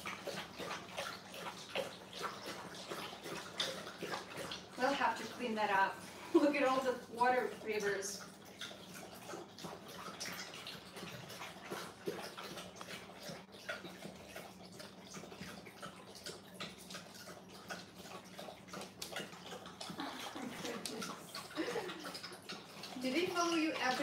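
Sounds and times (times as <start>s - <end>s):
dogs lapping water from bowls: 0.0s - 24.0s.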